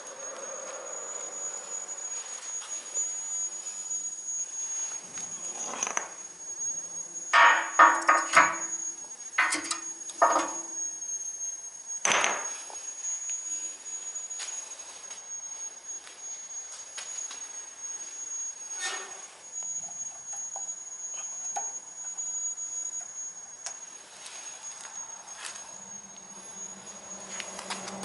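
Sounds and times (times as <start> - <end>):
steady high-pitched tone: 0.0 - 28.0.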